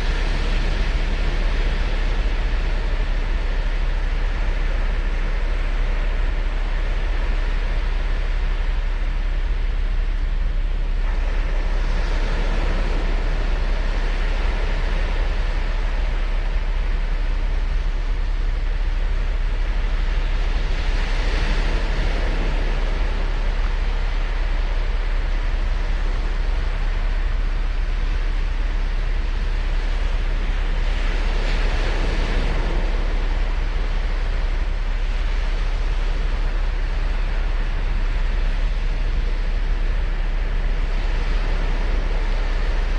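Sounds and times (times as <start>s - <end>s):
low rumble: 0.0s - 42.9s
ocean waves on sandy beach: 0.0s - 42.9s.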